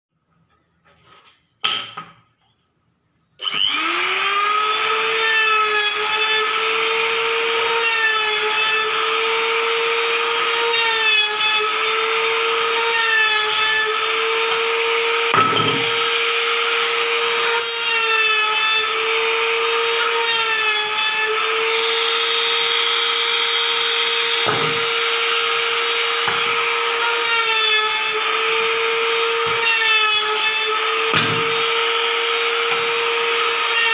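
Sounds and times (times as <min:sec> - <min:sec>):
trim router whining: 0:03.4 - 0:33.9.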